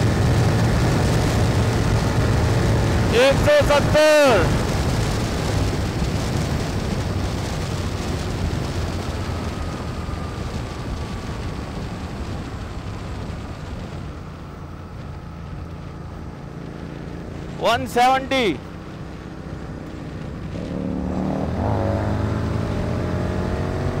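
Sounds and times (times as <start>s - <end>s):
motorcycle engine at high speed: 0.0s - 24.0s
wind rush: 0.0s - 24.0s.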